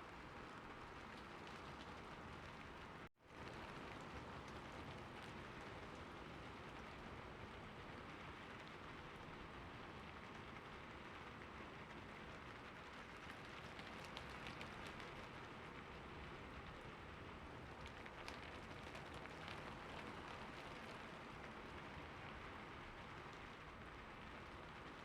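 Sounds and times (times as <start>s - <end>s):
steady light rain hiss: 0.0s - 25.0s.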